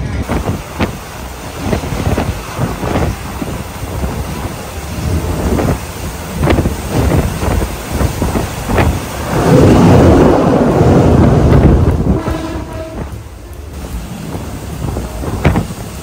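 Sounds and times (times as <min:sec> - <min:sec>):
train rumbling: 0:00.0 - 0:16.0
wind rushing onto microphone: 0:00.0 - 0:16.0.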